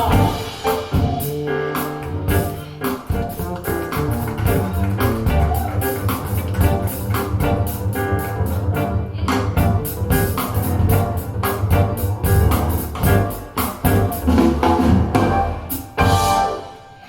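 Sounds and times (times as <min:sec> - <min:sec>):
rock music with drums and guitars: 0:00.0 - 0:16.9.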